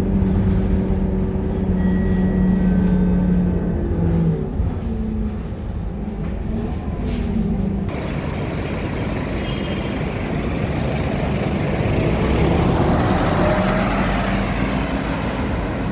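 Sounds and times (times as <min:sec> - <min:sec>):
bus diesel engine humming: 0:00.0 - 0:15.9
road and body noise: 0:00.0 - 0:15.9.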